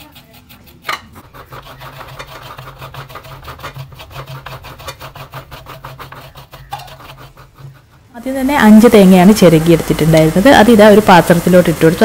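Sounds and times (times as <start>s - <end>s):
coconut grated by hand: 0.0s - 12.0s.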